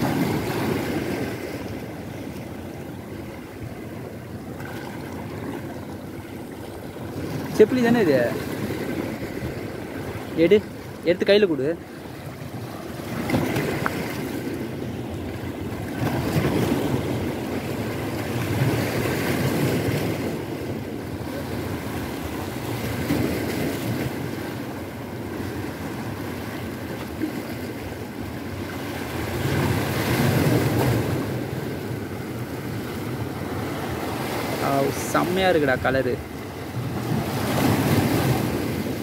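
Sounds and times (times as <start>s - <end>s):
waves breaking over rocks: 0.0s - 39.0s.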